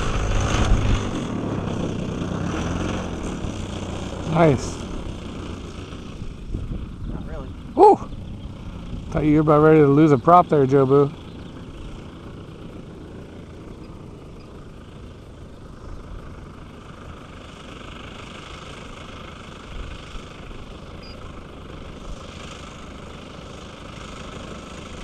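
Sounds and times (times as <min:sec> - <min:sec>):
model plane engine at low throttle: 0:00.0 - 0:25.0.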